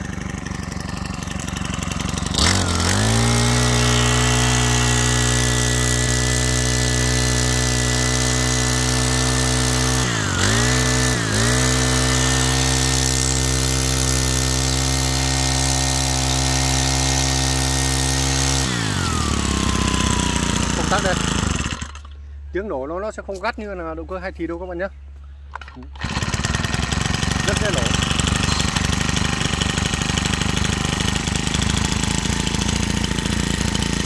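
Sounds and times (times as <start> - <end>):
brush cutter engine running: 0.0 - 22.3, 25.5 - 34.0.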